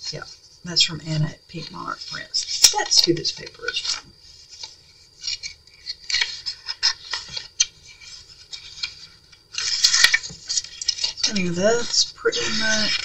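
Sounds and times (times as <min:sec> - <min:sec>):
paper pages rustling: 0:01.6 - 0:13.0.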